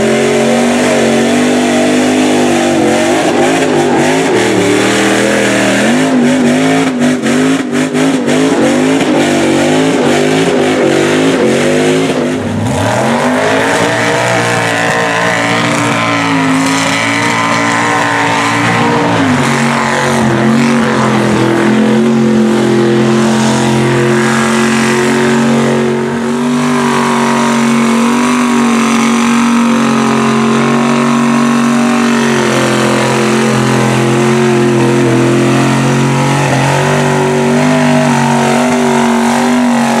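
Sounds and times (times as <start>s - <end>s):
trucks revving through mud: 0.0s - 40.0s.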